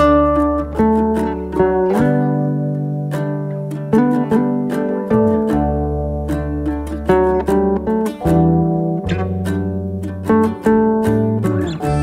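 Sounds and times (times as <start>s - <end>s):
plucked string instrument tune: 0.0s - 12.0s.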